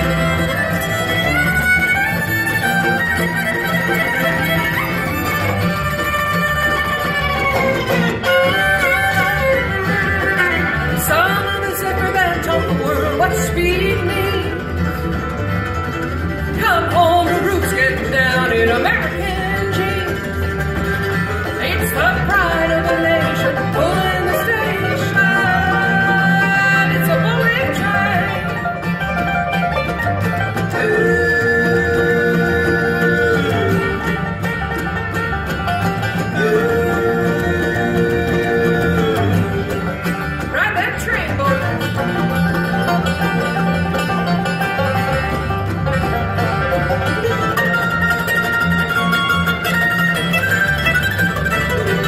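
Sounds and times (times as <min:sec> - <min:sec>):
acoustic guitar: 0:00.0 - 0:52.0
banjo: 0:00.0 - 0:52.0
bluegrass band playing: 0:00.0 - 0:52.0
fiddle: 0:00.0 - 0:52.0
mandolin: 0:00.0 - 0:52.0
upright bass: 0:00.0 - 0:52.0.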